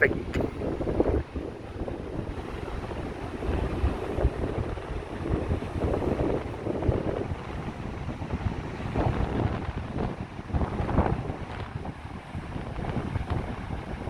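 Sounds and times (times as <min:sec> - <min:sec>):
rough sea wash: 0:00.0 - 0:14.0
wind buffeting microphone: 0:00.0 - 0:14.0.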